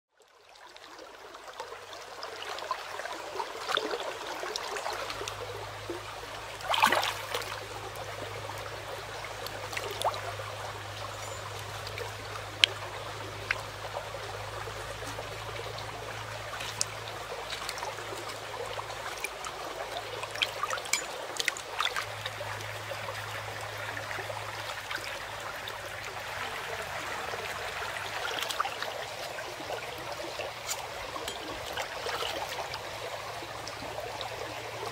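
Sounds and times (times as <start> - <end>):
stream trickling over stones: 0.1 - 34.9
water splashes: 0.4 - 34.9.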